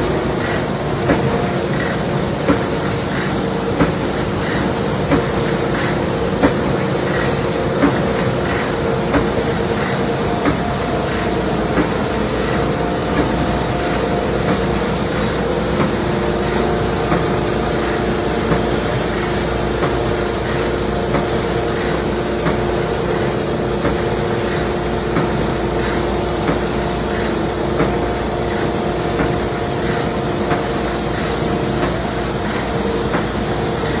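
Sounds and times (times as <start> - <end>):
industrial machine running: 0.0 - 34.0.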